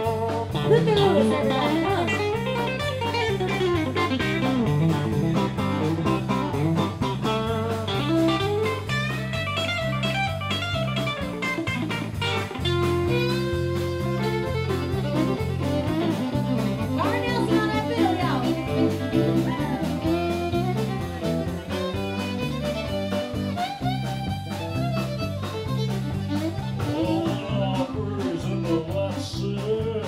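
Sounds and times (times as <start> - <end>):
electric guitar fast runs: 0.0 - 27.4
bass line: 0.0 - 30.0
drums: 0.0 - 30.0.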